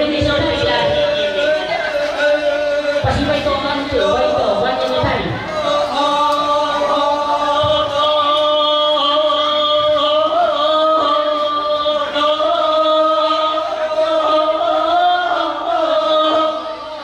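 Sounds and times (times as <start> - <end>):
voices chanting long notes: 0.0 - 17.0.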